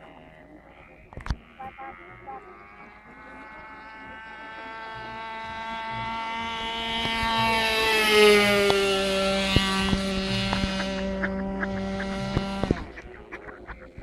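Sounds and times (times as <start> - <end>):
model airplane motor: 1.1 - 13.0.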